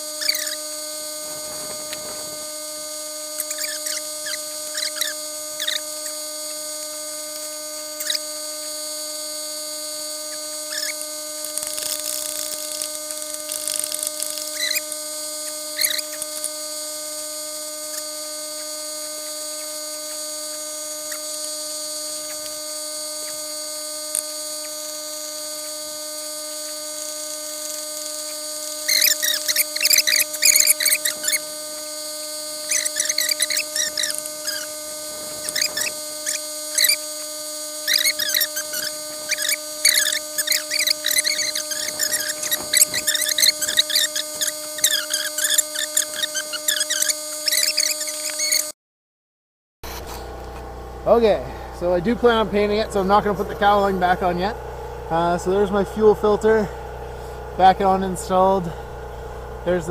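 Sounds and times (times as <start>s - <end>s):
generator whining: 0.0s - 48.7s, 49.8s - 59.9s.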